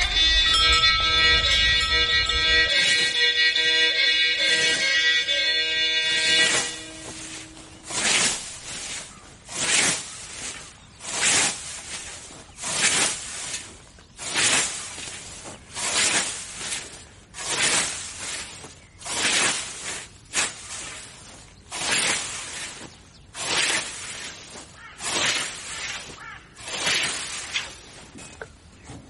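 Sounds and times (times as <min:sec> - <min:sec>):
repeated swishing: 0:00.0 - 0:28.0.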